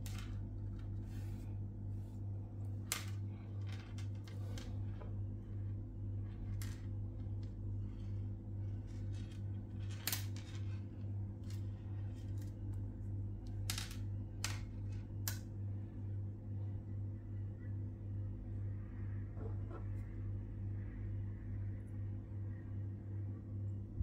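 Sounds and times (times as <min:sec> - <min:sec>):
low pulsing hum: 0:00.0 - 0:24.0.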